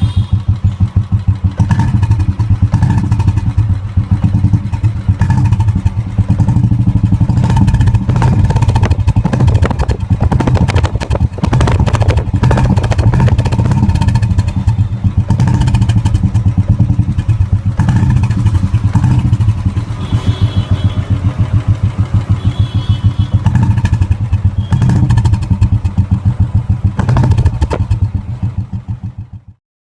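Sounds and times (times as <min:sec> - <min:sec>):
motorcycle exhaust thumping: 0:00.0 - 0:29.6.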